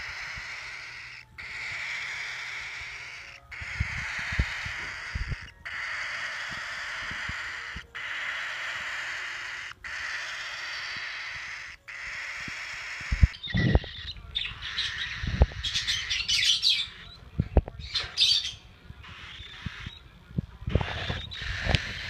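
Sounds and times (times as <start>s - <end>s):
bird squawking and chirping: 0.0s - 17.2s, 17.8s - 22.0s.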